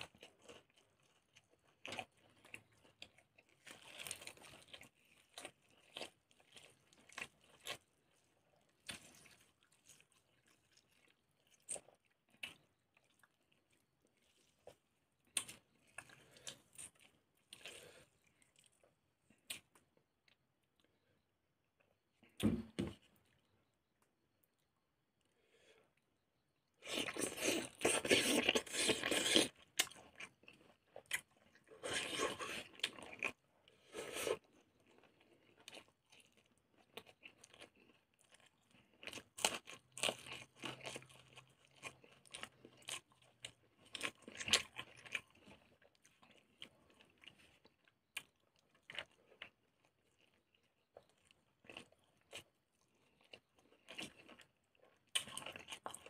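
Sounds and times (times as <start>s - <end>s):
crunchy chewing: 0.0s - 22.4s, 26.7s - 56.0s.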